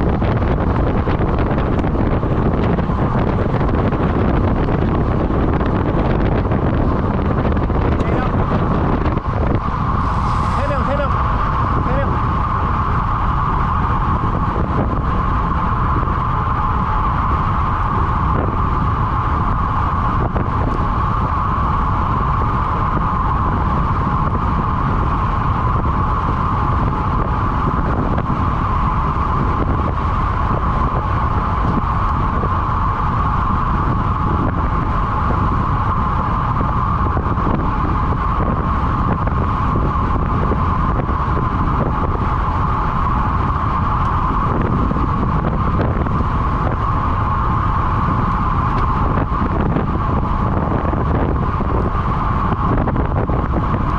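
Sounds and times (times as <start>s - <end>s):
mid-pitched hum: 0.0s - 53.9s
wind rushing over microphone: 0.0s - 53.9s.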